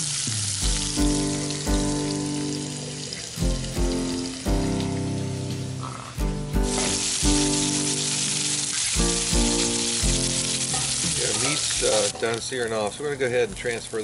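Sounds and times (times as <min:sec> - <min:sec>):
beef sizzling in a skillet: 0:00.0 - 0:12.7
instrumental music with held notes: 0:00.6 - 0:12.1.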